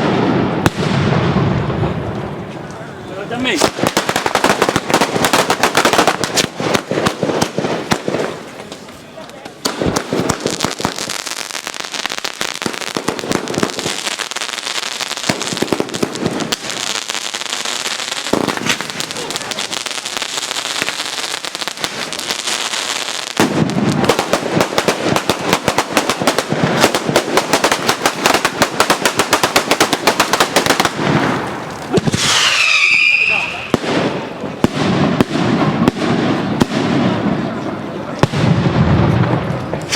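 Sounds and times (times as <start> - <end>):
firecrackers rattling: 1.9 - 39.9.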